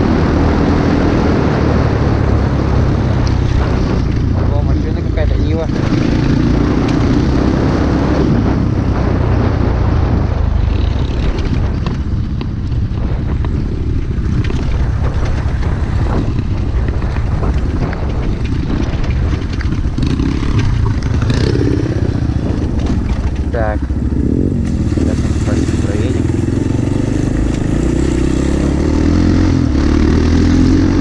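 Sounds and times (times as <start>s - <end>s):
wind rumble on microphone: 0.0s - 31.0s
motorbike engine running: 1.2s - 31.0s.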